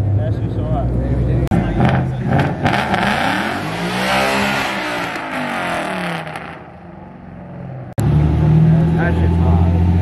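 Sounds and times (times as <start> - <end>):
car engine accelerating away: 0.2 - 6.8, 7.8 - 10.0.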